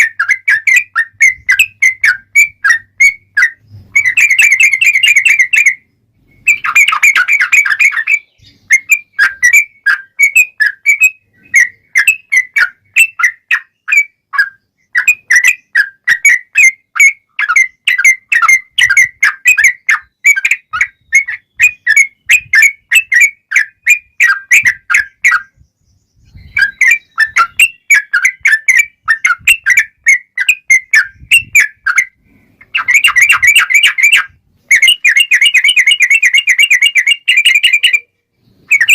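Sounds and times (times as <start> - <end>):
bird singing bubbly chirps and trills: 0.0 - 38.9.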